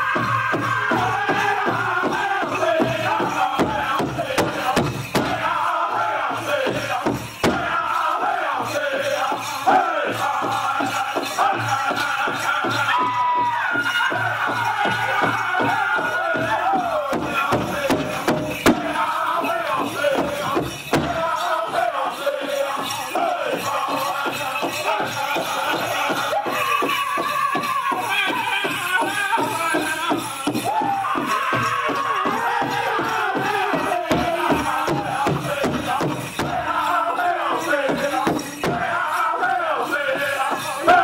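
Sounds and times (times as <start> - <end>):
fast beat on large drum: 0.0 - 22.0, 22.6 - 41.0
group singing in chorus: 0.0 - 41.0.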